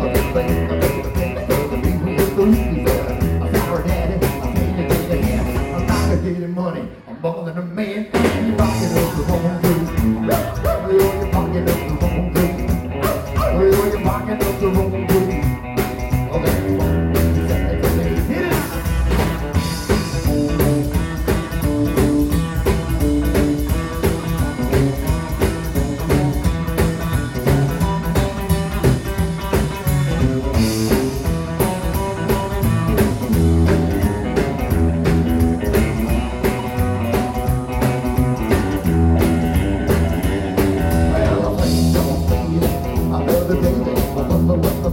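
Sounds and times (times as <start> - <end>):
rockabilly band playing: 0.0 - 44.9.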